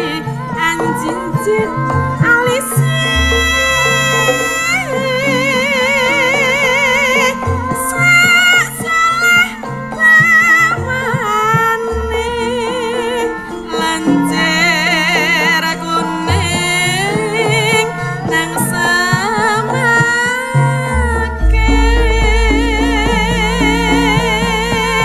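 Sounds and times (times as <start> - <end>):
gamelan accompaniment: 0.0 - 25.0
woman singing with vibrato: 0.0 - 25.0.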